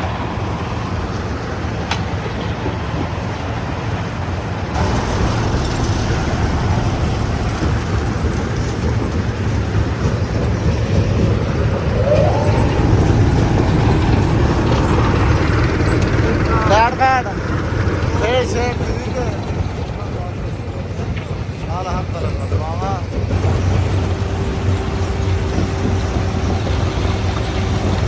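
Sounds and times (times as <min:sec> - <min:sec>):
stone crusher running: 0:04.8 - 0:28.0.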